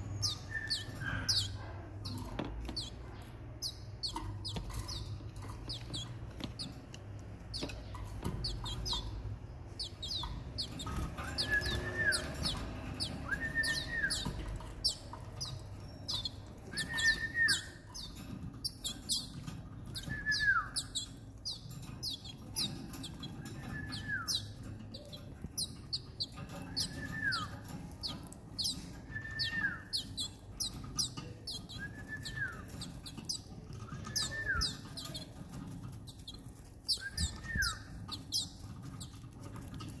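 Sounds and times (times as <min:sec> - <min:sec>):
canary chicks begging chirps: 0:00.0 - 0:40.0.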